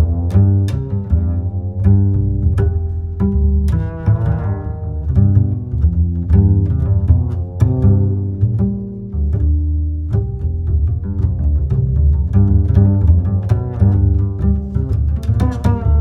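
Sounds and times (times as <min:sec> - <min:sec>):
bowed low strings: 0:00.0 - 0:16.0
plucked string notes: 0:00.0 - 0:16.0.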